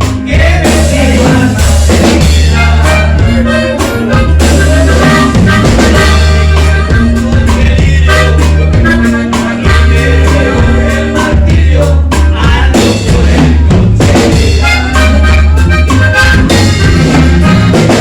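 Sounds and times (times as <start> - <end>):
person singing: 0.0 - 16.2
latin dance music: 0.0 - 18.0.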